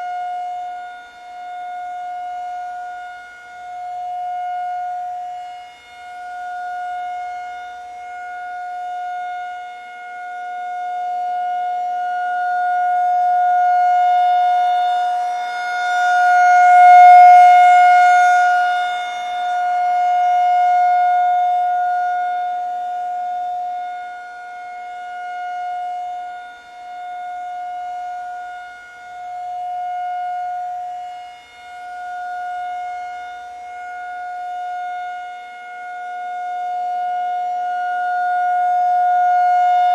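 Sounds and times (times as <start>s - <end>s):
tornado warning siren: 0.0s - 39.9s.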